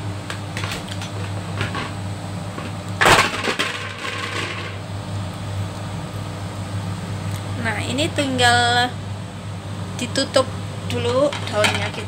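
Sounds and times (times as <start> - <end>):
fan humming: 0.0 - 12.0.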